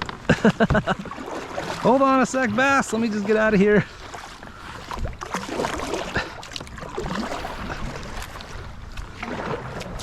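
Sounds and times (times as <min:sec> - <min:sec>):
water splashing around kayak: 0:00.0 - 0:10.0.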